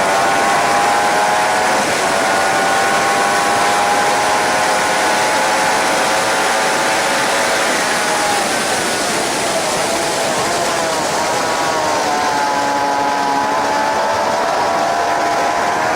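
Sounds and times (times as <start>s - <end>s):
motorcycle engine at high revs: 0.0s - 15.9s
wind rush: 0.0s - 15.9s.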